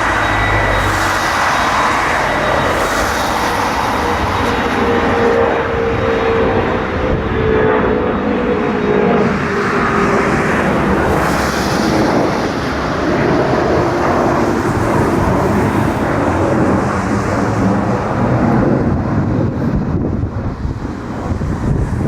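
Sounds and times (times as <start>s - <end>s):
jet airliner engines: 0.0s - 22.0s.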